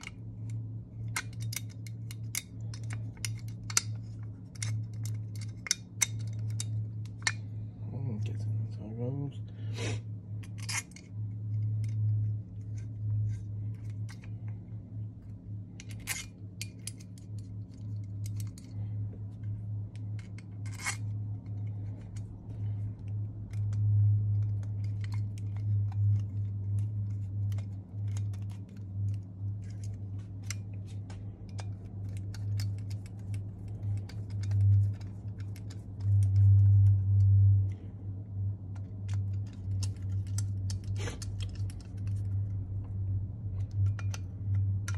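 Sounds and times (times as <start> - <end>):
metal parts clicking and scraping: 0.0 - 8.4, 10.3 - 37.8, 38.4 - 44.9
steady low hum: 0.0 - 44.9.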